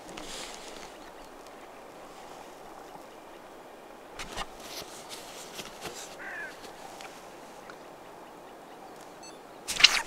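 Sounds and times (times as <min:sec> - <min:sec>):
distant bird calls: 0:00.0 - 0:10.0.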